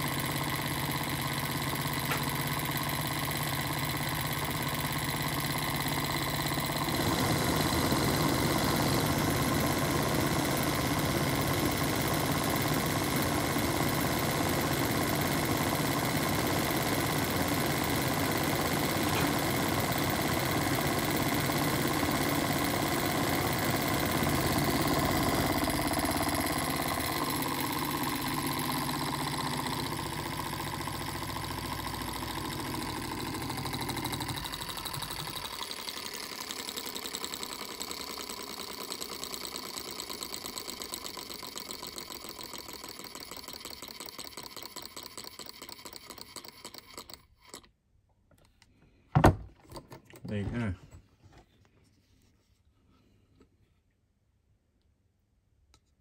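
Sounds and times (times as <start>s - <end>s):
stirling engine running: 0.0s - 47.2s.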